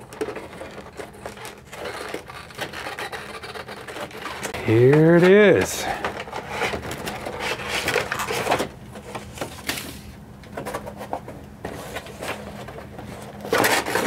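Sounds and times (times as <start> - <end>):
cardboard and plastic rustling: 0.0 - 14.0.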